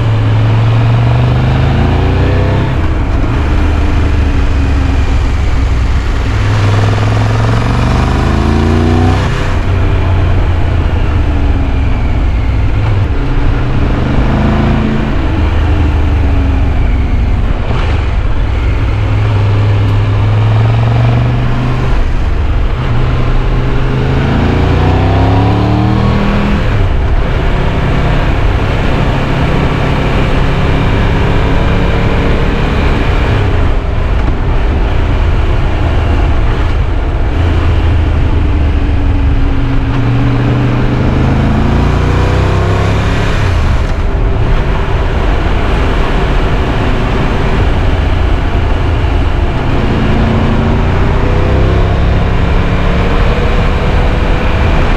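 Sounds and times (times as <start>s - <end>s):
motorcycle engine revving: 0.0s - 54.9s
wind and road rush: 0.0s - 54.9s.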